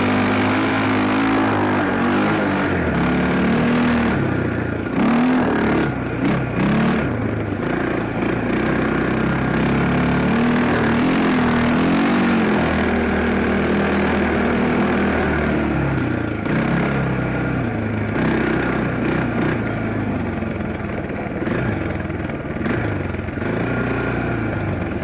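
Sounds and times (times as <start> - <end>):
dirt bike engine revving: 0.0 - 19.7, 21.4 - 25.0.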